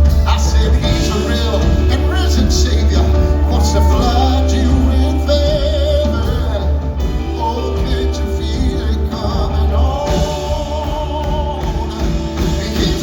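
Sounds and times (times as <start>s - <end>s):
gospel band music: 0.0s - 13.0s
heavy steady bass: 0.0s - 13.0s
person singing wavering vocal: 0.5s - 13.0s.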